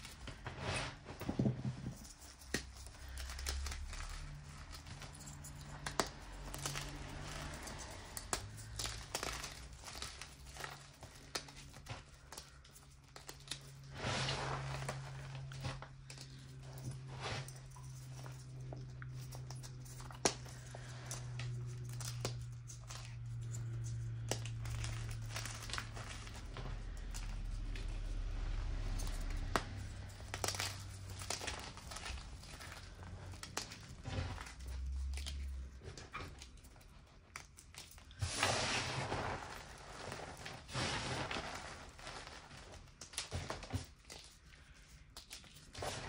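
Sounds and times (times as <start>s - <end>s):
chalk crunching and crumbling: 0.0s - 46.0s.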